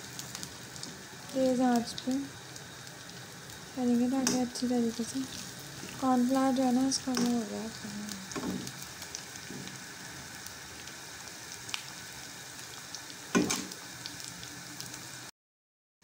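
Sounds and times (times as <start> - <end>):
food deep-frying in sizzling oil: 0.0 - 15.3.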